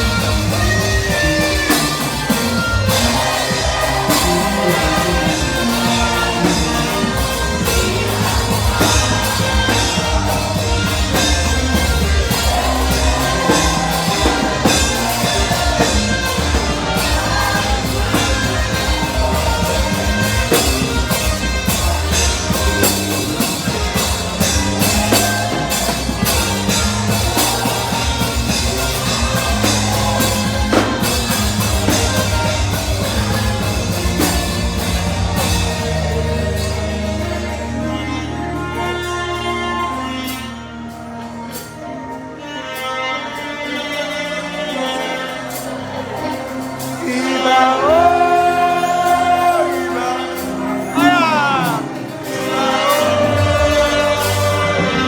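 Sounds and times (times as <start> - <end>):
drum kit steady beat: 0.0 - 40.5, 45.4 - 55.0
sustained bass: 0.0 - 42.5, 45.5 - 55.0
people singing: 0.0 - 55.0
saxophone melody: 0.0 - 55.0.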